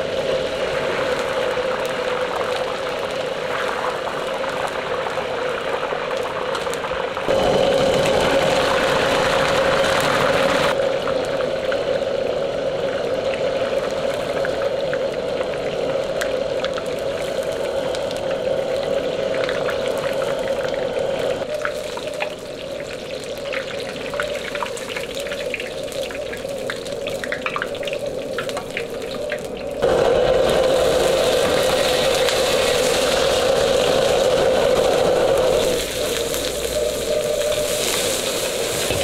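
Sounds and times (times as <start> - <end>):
food deep-frying in hot oil: 0.0 - 39.0.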